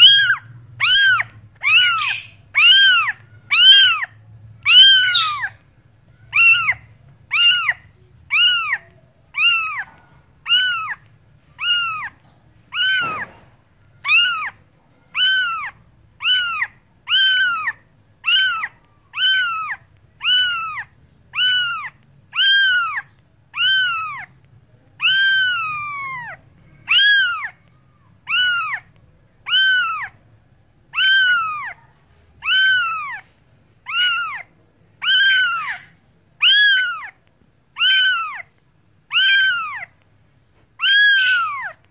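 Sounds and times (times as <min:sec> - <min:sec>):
cat meowing: 0:00.0 - 0:11.0, 0:11.6 - 0:24.4, 0:25.0 - 0:30.2, 0:30.9 - 0:38.5, 0:39.1 - 0:39.9, 0:40.8 - 0:41.9.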